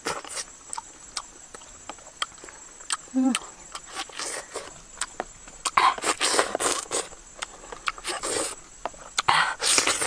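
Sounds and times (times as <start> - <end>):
chewing honeycomb close up: 0.0 - 10.0.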